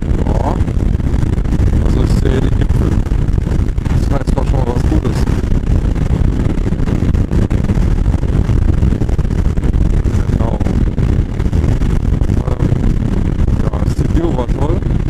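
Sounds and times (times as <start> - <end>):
motorcycle engine rumble: 0.0 - 15.0
wind buffeting microphone: 0.0 - 15.0.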